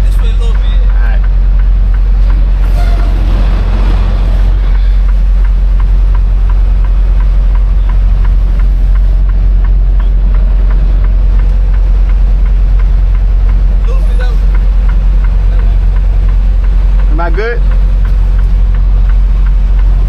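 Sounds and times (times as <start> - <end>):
diesel engine rumbling: 0.0 - 20.0
light regular ticking: 0.0 - 20.0.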